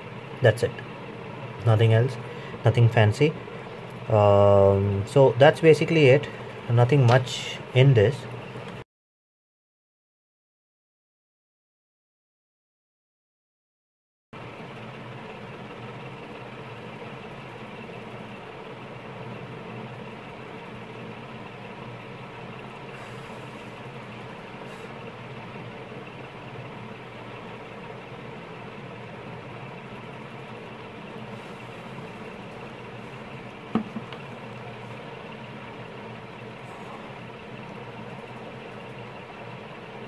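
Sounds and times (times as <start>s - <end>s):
steady hum with hiss: 0.0s - 8.8s, 14.4s - 40.0s.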